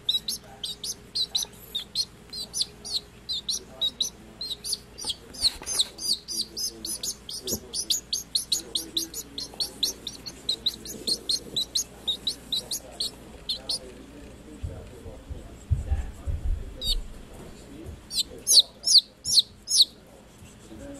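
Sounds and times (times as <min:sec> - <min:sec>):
baby chicks peeping: 0:00.0 - 0:14.9, 0:15.7 - 0:20.7.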